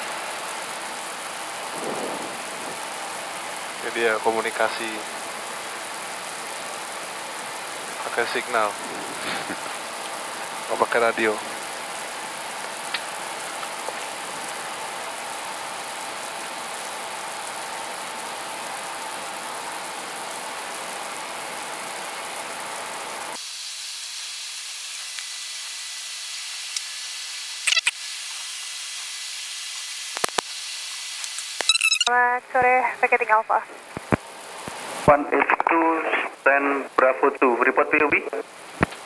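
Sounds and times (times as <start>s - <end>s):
cockpit engine hiss: 0.0s - 39.0s.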